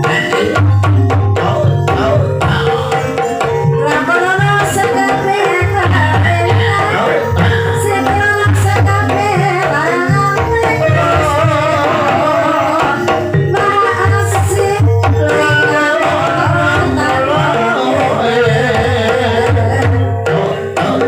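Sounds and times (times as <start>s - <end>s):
gamelan ensemble music: 0.0s - 21.0s
hand drums beating: 0.0s - 21.0s
person singing: 0.0s - 21.0s.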